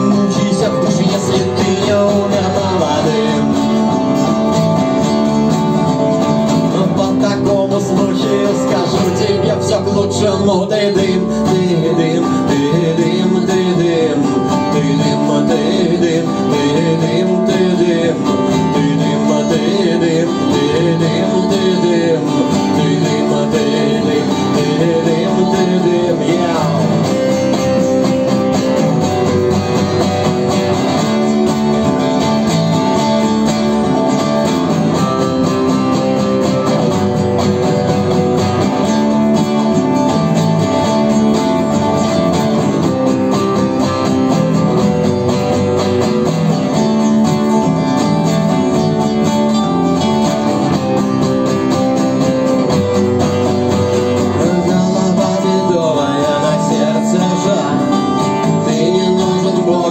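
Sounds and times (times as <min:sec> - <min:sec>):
live rock band instrumental: 0:00.0 - 0:59.9
strummed acoustic guitar: 0:00.0 - 0:59.9.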